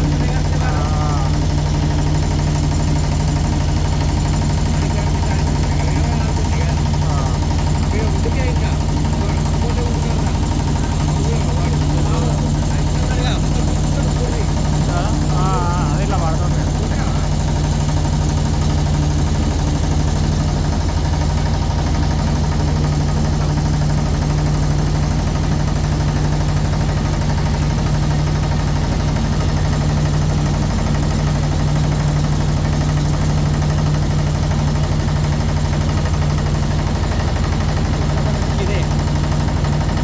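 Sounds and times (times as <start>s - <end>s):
motorboat engine running: 0.0s - 40.0s.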